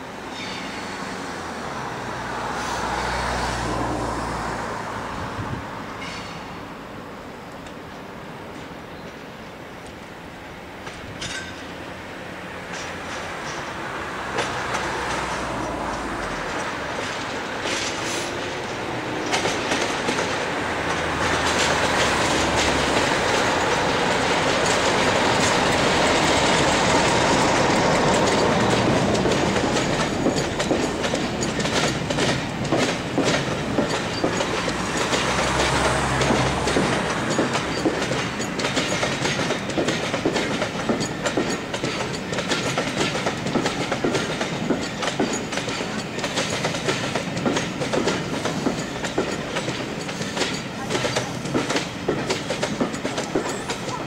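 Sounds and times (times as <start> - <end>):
diesel locomotive engine hum: 0.0 - 54.0
train wheels clickety-clack: 1.9 - 6.7, 10.7 - 11.9, 12.5 - 54.0.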